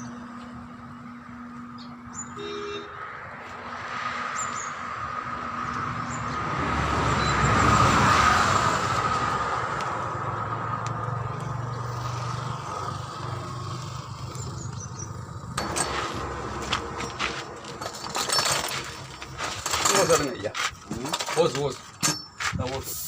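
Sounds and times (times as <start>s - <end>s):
road vehicle passing: 0.0s - 22.6s.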